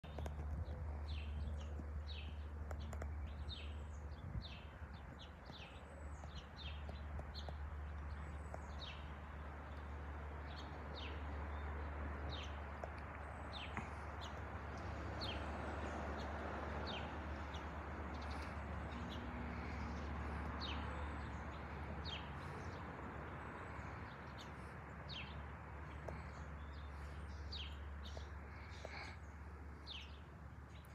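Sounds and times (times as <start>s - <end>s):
small birds chirping: 0.0s - 30.9s
distant jet airliner rumble: 0.1s - 30.3s.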